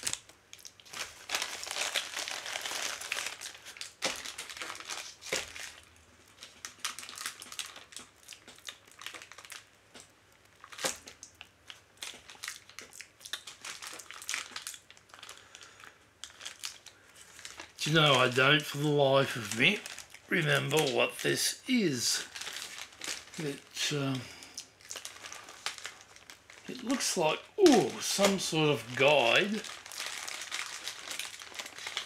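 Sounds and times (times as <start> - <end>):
plastic packaging crinkling: 0.0 - 32.0.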